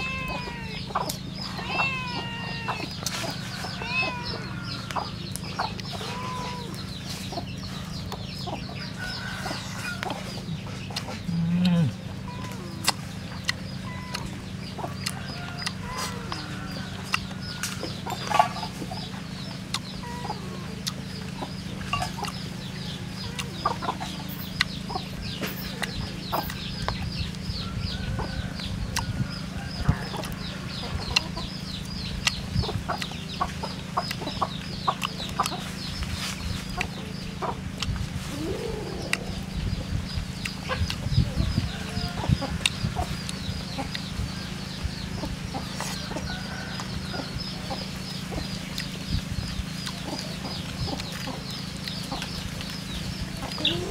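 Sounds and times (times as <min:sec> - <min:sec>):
chickens clucking: 0:00.0 - 0:53.9
steady low hum: 0:00.0 - 0:53.9.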